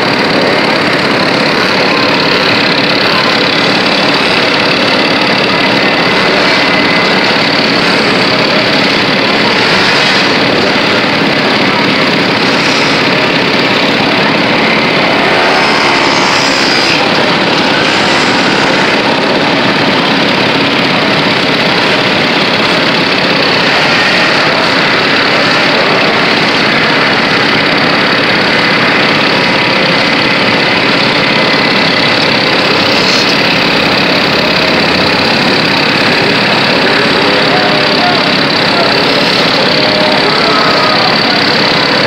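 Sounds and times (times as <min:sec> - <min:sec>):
moped engines idling: 0:00.0 - 0:42.0.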